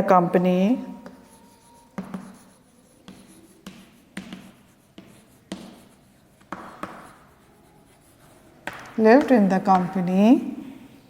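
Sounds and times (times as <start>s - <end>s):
pen tapping and scratching: 1.1s - 10.2s.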